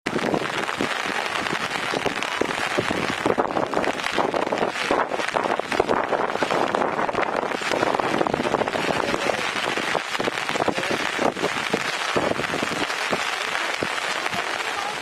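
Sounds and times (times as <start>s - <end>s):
steady rain falling: 0.1s - 15.0s.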